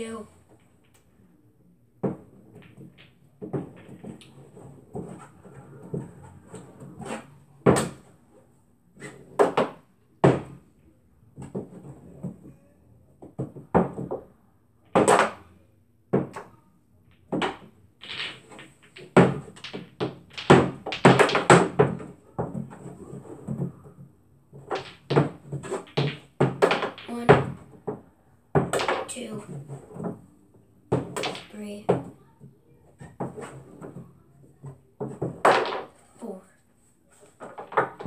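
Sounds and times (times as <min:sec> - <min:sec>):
billiard balls clacking: 0:02.0 - 0:08.3, 0:09.0 - 0:12.5, 0:13.2 - 0:15.5, 0:16.1 - 0:16.5, 0:17.1 - 0:30.3, 0:30.9 - 0:32.2, 0:33.0 - 0:36.2, 0:37.2 - 0:38.0.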